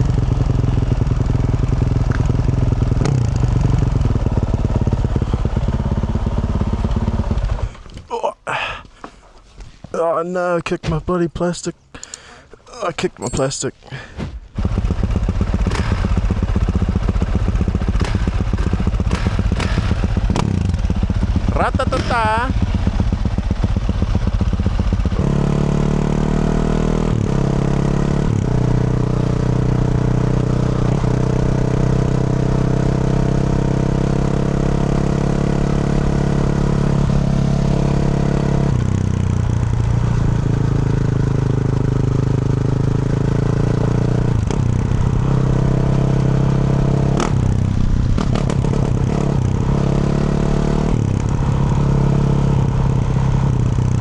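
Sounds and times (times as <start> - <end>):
motorcycle engine running loud: 0.0 - 7.8, 14.6 - 54.0.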